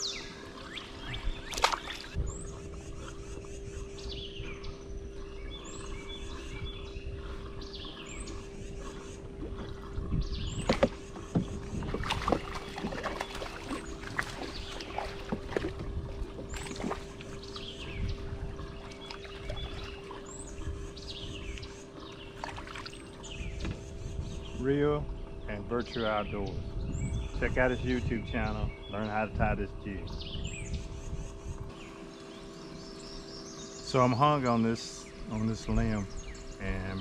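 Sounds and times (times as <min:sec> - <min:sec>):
birds whistling: 0:00.0 - 0:15.8, 0:16.4 - 0:37.0
steady low hum: 0:00.0 - 0:37.0.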